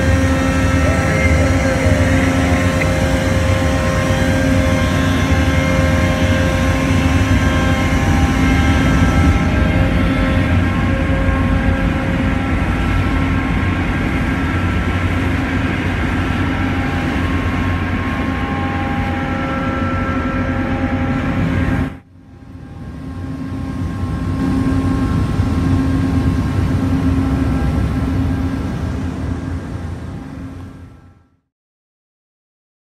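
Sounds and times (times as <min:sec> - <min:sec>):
heavy machinery drone: 0:00.0 - 0:31.4.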